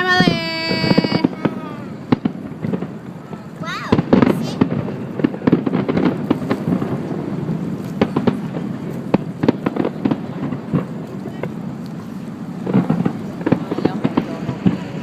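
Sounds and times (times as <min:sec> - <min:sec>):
continuous rumbling: 0:00.0 - 0:15.0
fireworks bangs and crackles: 0:00.0 - 0:15.0.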